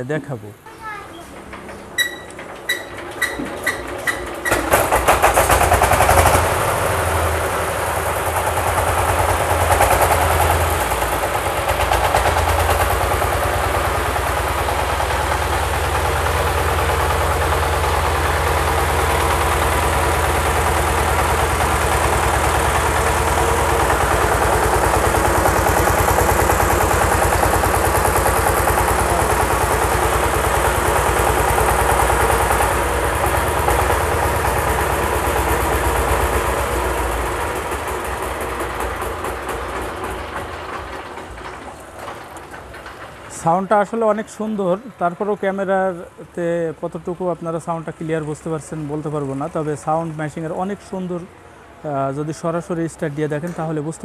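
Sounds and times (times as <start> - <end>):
diesel engine cranking and running: 0.8 - 54.0.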